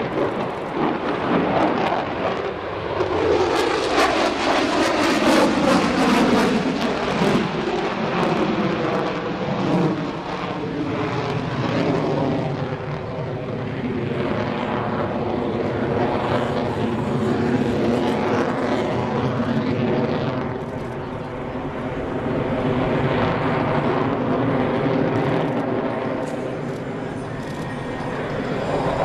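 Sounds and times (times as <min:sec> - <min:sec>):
jet engine roar overhead: 0:00.0 - 0:29.0.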